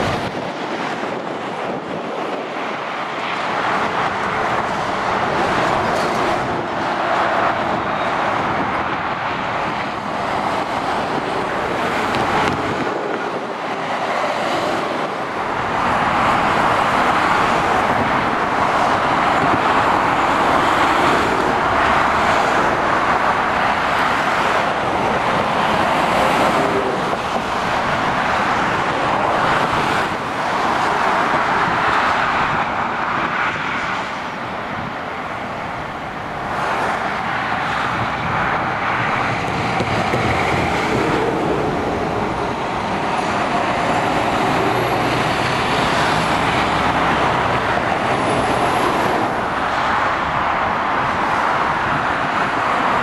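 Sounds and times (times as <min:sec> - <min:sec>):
motorway traffic passing: 0:00.0 - 0:53.0.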